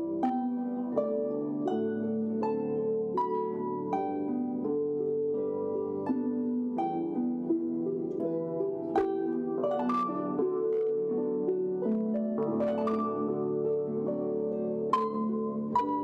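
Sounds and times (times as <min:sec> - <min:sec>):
harp plucked notes: 0:00.0 - 0:16.0.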